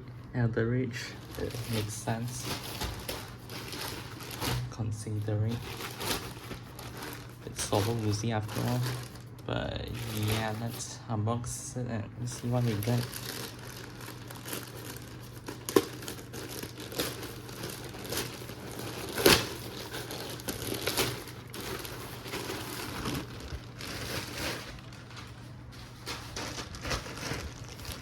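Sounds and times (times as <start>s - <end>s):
plastic packaging crinkling: 0.9s - 11.0s, 12.2s - 28.0s.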